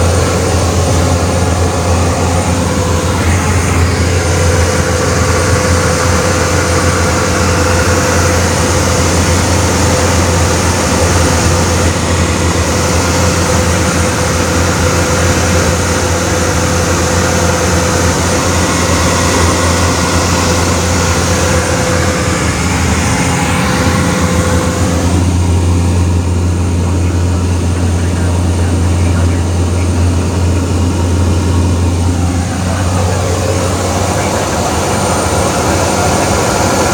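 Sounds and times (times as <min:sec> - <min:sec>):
propeller plane engine running: 0:00.0 - 0:36.9.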